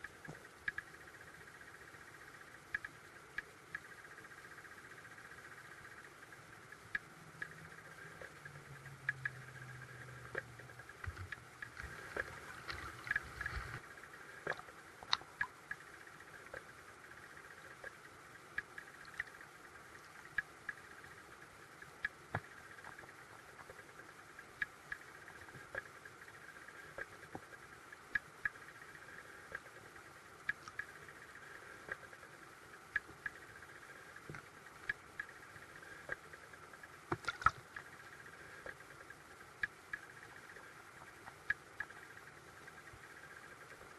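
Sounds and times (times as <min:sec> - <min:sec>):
low hum: 0:00.0 - 0:43.9
sharp irregular underwater clicks: 0:00.0 - 0:43.9
steady underwater hiss: 0:00.0 - 0:43.9.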